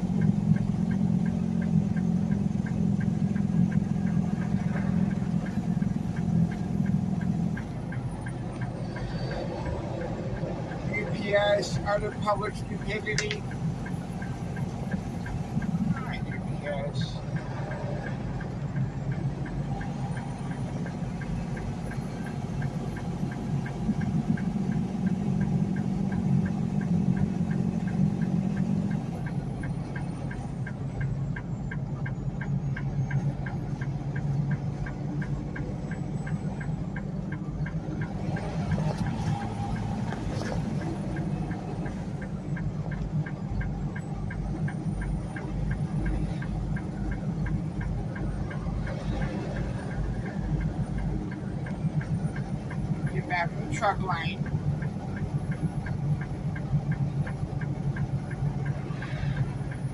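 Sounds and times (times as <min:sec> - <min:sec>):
faint fast ticking: 0:00.0 - 0:59.9
truck diesel engine running: 0:00.0 - 0:59.9.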